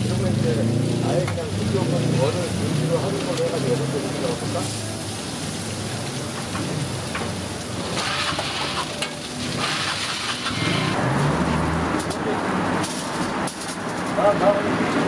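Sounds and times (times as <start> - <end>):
patties sizzling on a griddle: 0.0 - 14.6.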